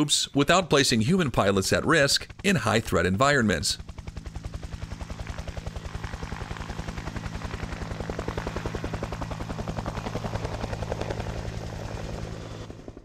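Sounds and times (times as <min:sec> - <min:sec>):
helicopter engine hum: 0:00.0 - 0:13.0
helicopter rotor beating: 0:00.0 - 0:13.0.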